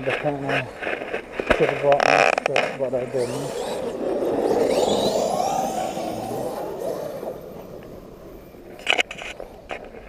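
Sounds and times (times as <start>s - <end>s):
rc car motor whine: 0.5s - 10.0s.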